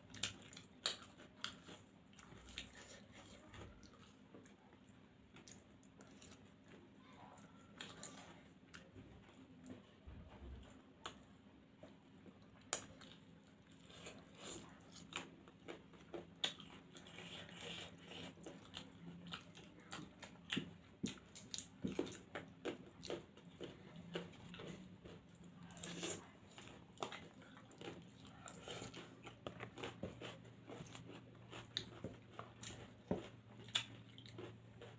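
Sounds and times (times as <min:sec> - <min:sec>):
chewing and mouth sounds: 0:00.0 - 0:34.9
faint steady hum: 0:00.0 - 0:34.9.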